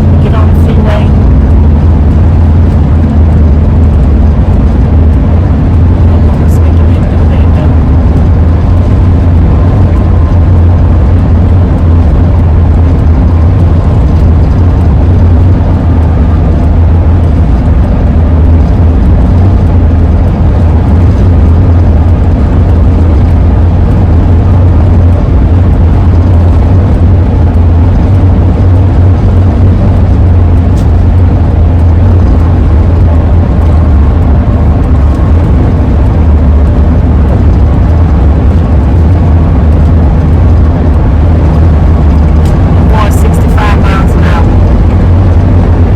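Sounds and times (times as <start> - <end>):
road and engine noise in cab: 0.0 - 45.9.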